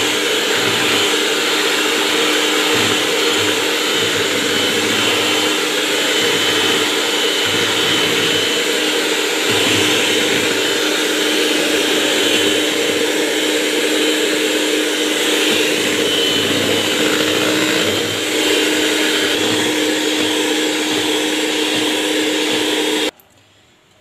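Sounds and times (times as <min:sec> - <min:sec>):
electric hand mixer whirring: 0:00.0 - 0:23.2.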